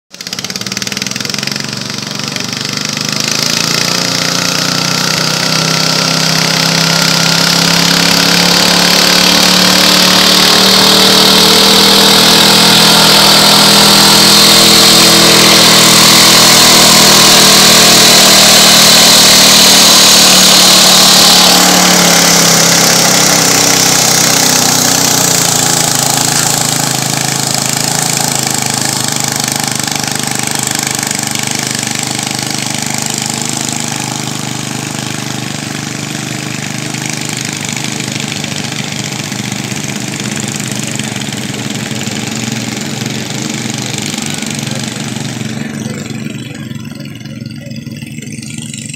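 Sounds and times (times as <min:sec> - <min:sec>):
tractor engine running hard: 0:00.1 - 0:48.9.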